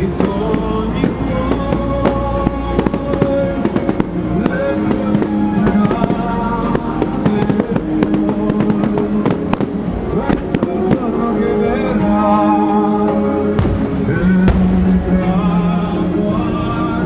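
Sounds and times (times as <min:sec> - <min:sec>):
fireworks bangs and crackles: 0:00.0 - 0:17.0
loud music: 0:00.0 - 0:17.0.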